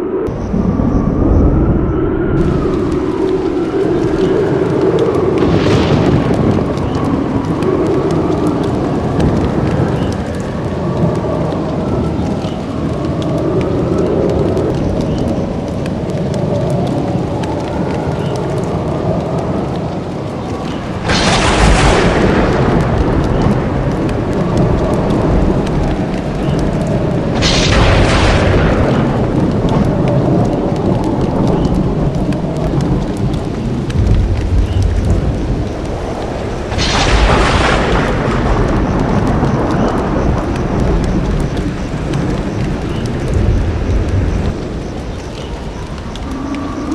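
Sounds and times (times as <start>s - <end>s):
thunder cracks: 0.0s - 12.9s, 20.5s - 46.9s
low thunder rumble: 0.0s - 46.9s.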